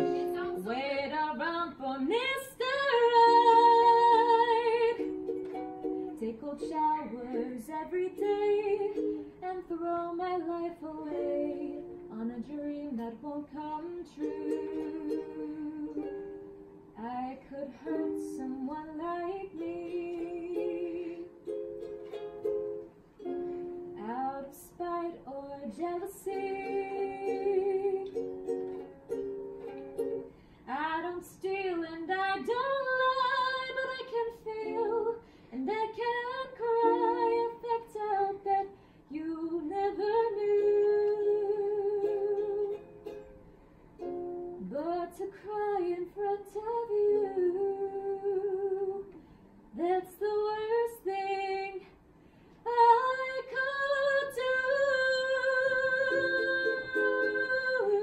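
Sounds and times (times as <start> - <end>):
woman singing: 0.0 - 21.7, 23.7 - 28.6, 30.0 - 43.2, 44.4 - 52.0, 52.6 - 58.0
ukulele strumming: 0.0 - 38.7, 39.3 - 48.7, 52.7 - 58.0.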